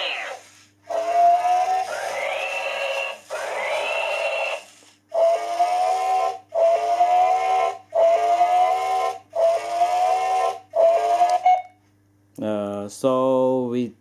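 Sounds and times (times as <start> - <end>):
electronic whistle tones: 0.0 - 11.8.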